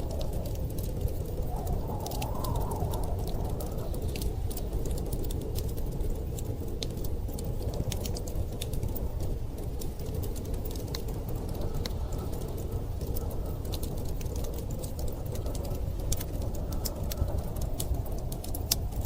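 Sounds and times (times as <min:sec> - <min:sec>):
storm wind rumble: 0:00.0 - 0:19.0
wood fire crackling and popping: 0:00.0 - 0:19.0.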